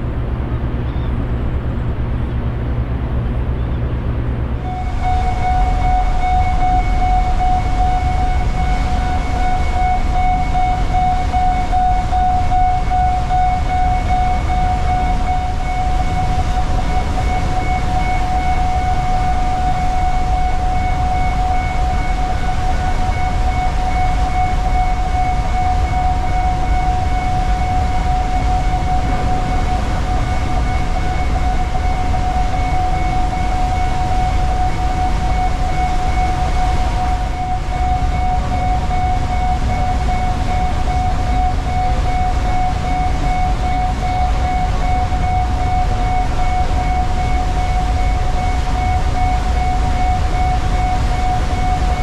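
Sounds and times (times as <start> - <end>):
ship machinery rumble and whine: 0.0 - 52.0.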